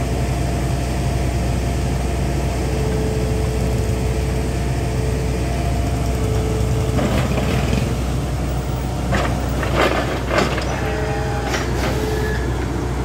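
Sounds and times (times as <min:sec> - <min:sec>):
drilling rig engine humming: 0:00.0 - 0:13.0
steady high whine: 0:00.0 - 0:13.0.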